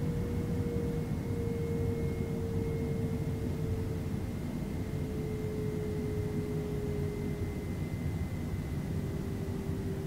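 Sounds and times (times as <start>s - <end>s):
jet engines heard from cabin: 0.0s - 10.0s.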